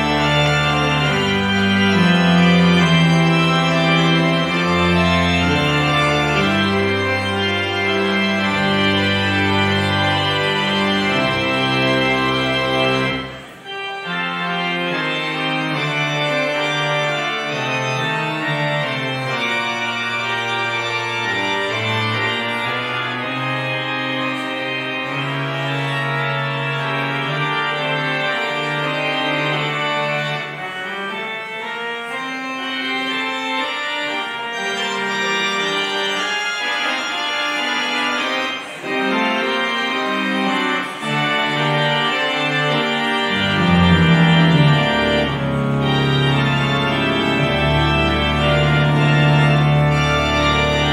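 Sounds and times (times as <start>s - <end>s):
organ playing sustained chords: 0.0s - 50.9s.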